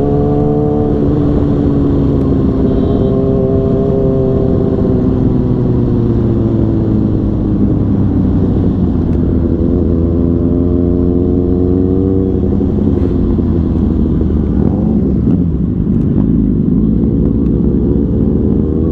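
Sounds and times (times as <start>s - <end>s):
motorcycle engine accelerating: 0.0s - 18.9s.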